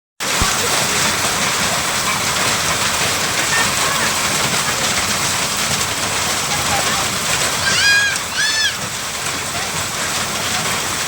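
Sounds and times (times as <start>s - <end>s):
heavy rain and hail pattering: 0.2s - 11.0s.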